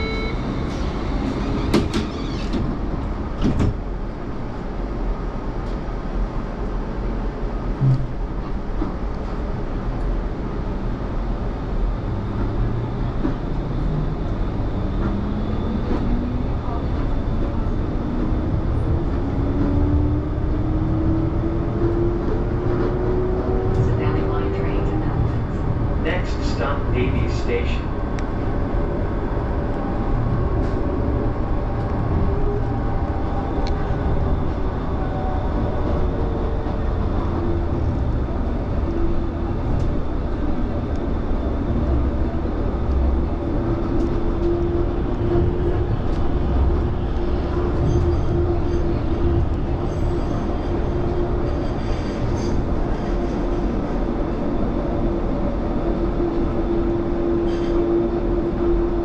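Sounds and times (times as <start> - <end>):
tram rolling rumble: 0.0 - 59.0.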